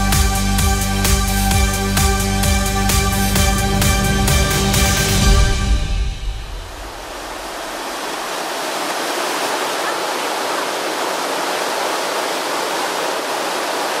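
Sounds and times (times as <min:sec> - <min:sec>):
river rapids rushing: 0:02.4 - 0:14.0.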